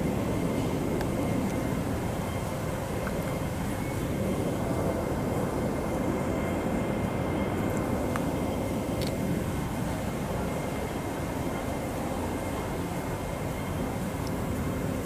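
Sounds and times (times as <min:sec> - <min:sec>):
electric train rumbling: 0:00.0 - 0:15.0
faint high whine: 0:00.0 - 0:15.0.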